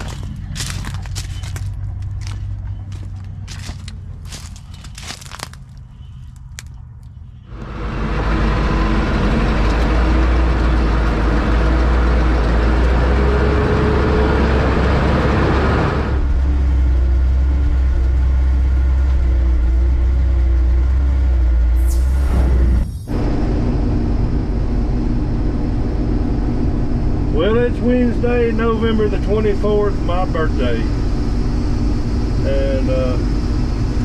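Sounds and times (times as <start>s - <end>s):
diesel engine low drone: 0.0s - 34.0s.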